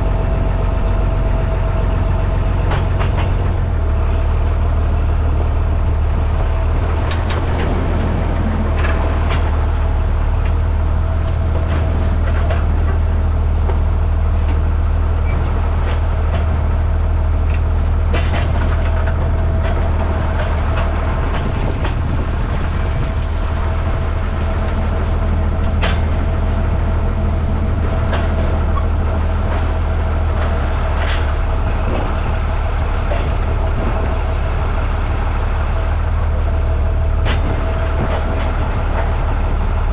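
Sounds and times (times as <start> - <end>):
heavy engine running under load: 0.0 - 39.9.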